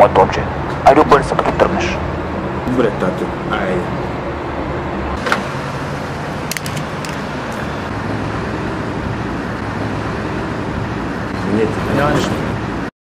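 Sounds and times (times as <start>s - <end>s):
road noise: 0.0s - 12.9s
vehicle engine hum: 0.0s - 12.9s.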